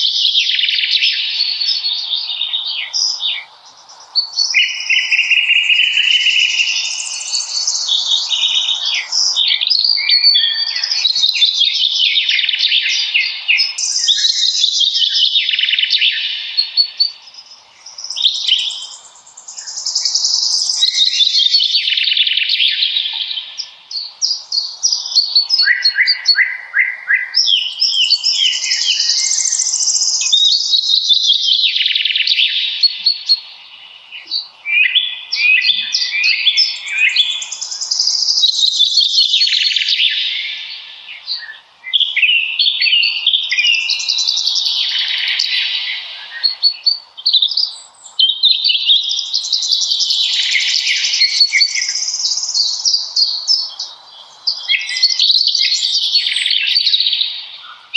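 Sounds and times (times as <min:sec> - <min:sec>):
songbirds trilling: 0:00.0 - 0:57.9.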